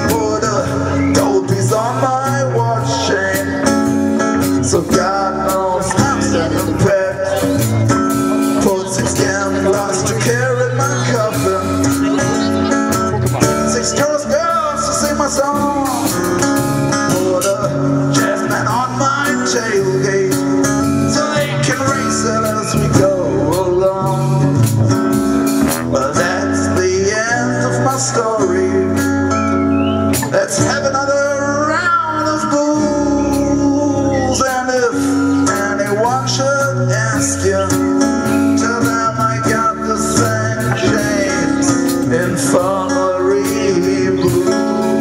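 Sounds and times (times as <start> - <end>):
bass notes: 0.0 - 45.0
lead guitar bending notes: 0.0 - 45.0.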